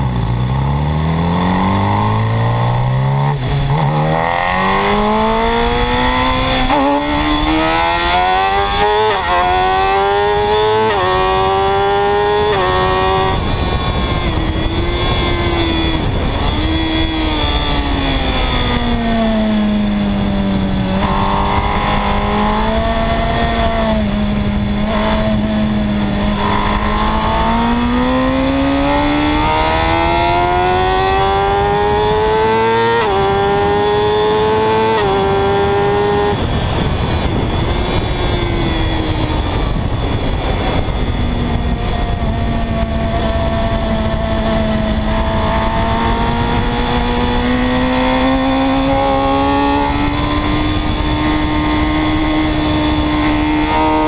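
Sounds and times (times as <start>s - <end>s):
motorbike engine revving: 0.0s - 54.0s
wind rushing: 1.1s - 54.0s.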